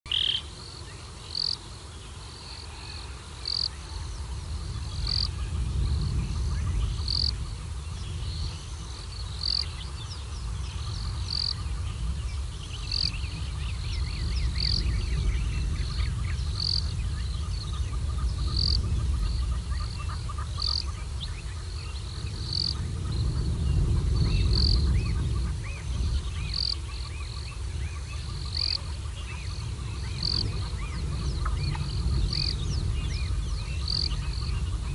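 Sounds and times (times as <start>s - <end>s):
birds twittering: 0.1s - 34.9s
low rumbling noise: 3.7s - 34.9s.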